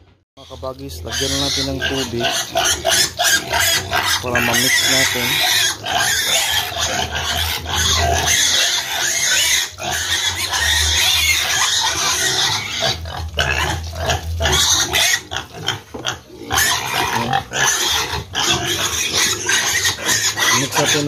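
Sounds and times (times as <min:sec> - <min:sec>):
pigs calling: 0:00.0 - 0:21.0.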